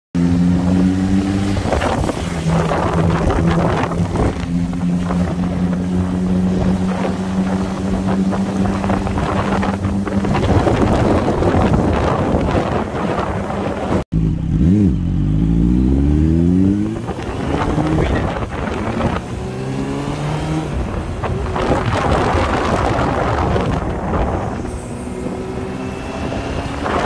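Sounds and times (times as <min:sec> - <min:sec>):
motorcycle engine running: 0:00.2 - 0:27.0
wind rushing past microphone: 0:00.3 - 0:14.1, 0:16.2 - 0:27.0.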